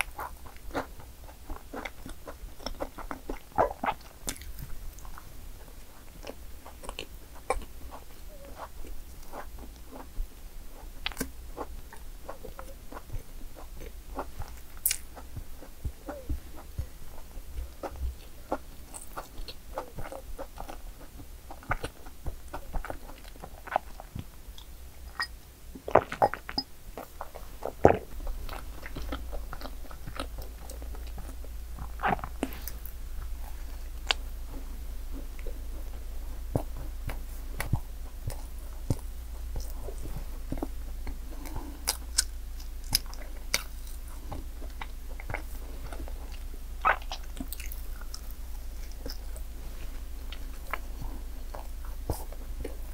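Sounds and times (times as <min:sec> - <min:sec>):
biting and chewing crunchy cake: 0:00.0 - 0:52.9.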